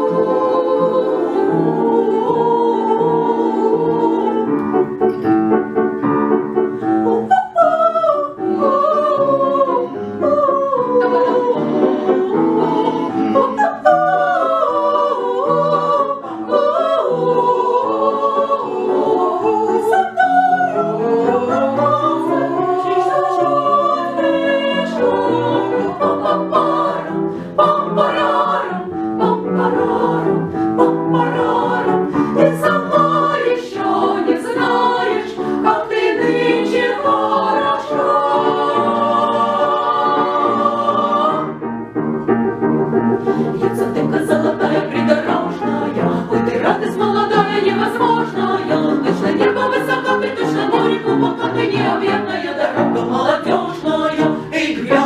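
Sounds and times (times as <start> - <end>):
vocal ensemble singing: 0.0 - 55.0.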